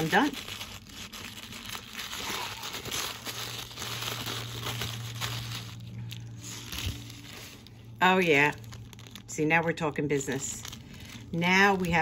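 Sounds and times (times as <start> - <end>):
low steady hum: 0.0 - 12.0
tissue paper rustling: 0.0 - 12.0.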